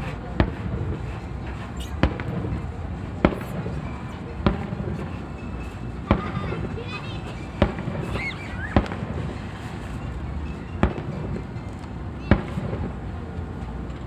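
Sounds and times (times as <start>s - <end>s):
fireworks booming: 0.0s - 10.0s, 10.8s - 11.6s, 12.2s - 13.0s
steady background rumble: 0.0s - 14.0s.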